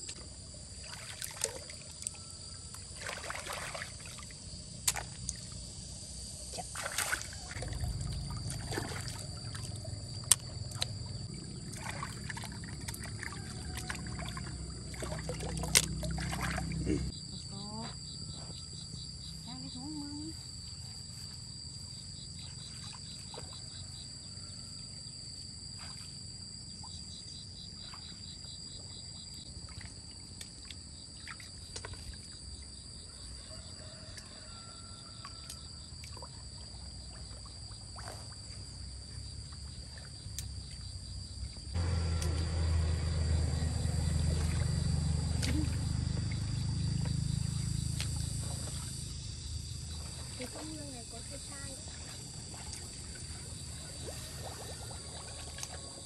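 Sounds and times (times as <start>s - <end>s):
insects droning: 0.0s - 56.0s
pulsed insect chirping: 0.0s - 56.0s.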